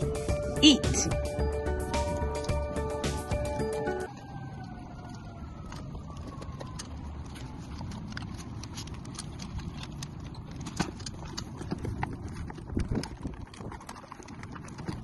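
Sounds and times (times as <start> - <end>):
dogs chewing and crunching food: 0.0 - 15.0.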